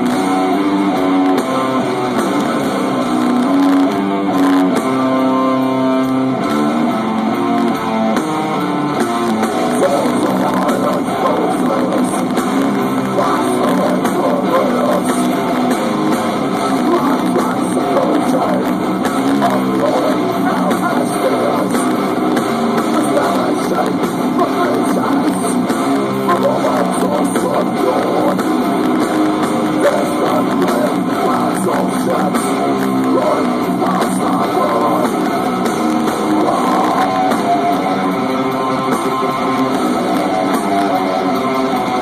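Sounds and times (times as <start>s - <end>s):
death metal band playing: 0.0s - 42.0s
distorted electric guitar riff: 0.0s - 42.0s.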